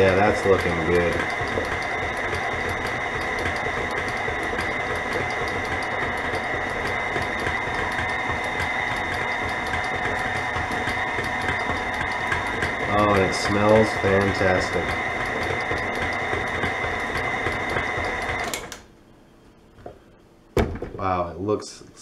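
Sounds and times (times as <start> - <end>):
stand mixer motor whining: 0.0 - 18.8.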